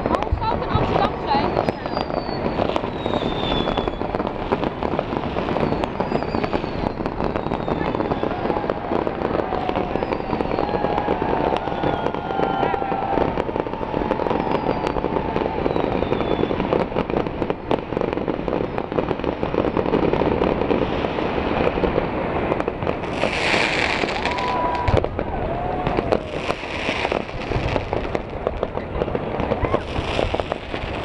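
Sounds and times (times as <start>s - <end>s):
fireworks bangs and crackles: 0.0s - 31.0s
fireworks hissing bursts: 0.0s - 31.0s.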